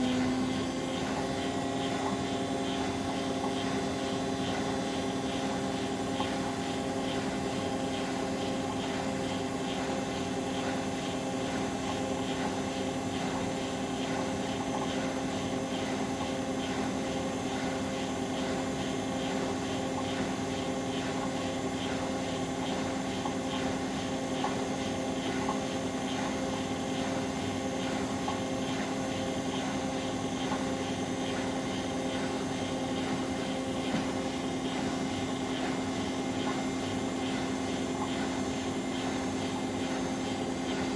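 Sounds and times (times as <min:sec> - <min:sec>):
washing machine motor humming: 0:00.0 - 0:40.9.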